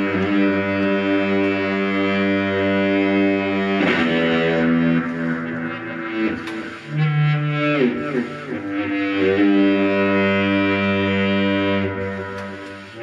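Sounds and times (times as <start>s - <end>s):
fuzz-distorted synthesizer notes: 0.0s - 13.0s.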